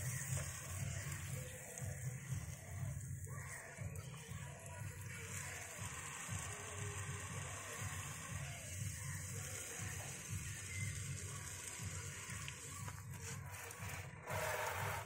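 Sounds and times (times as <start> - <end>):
water hissing from hose nozzle: 0.0 - 15.0.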